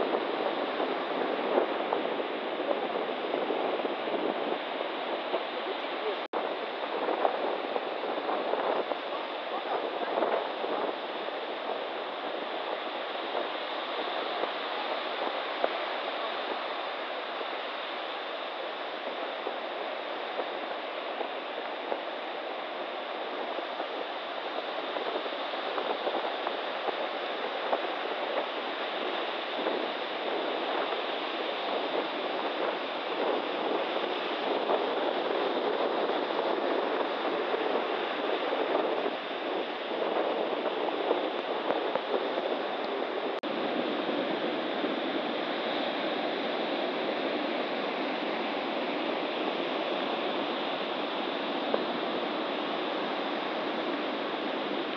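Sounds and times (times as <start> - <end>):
surf breaking on beach: 0.0 - 54.9.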